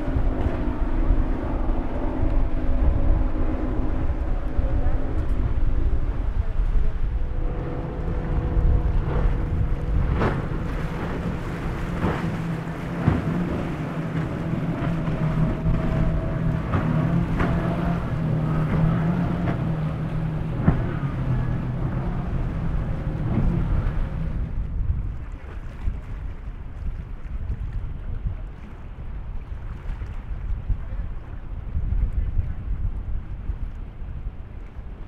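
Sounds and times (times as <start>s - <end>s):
outboard engines droning: 0.0s - 35.0s
wind buffeting microphone: 0.0s - 35.0s.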